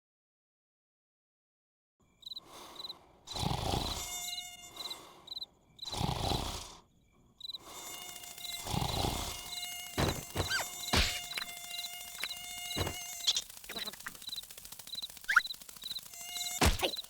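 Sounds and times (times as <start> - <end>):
cricket-like chirps: 2.1 - 17.0.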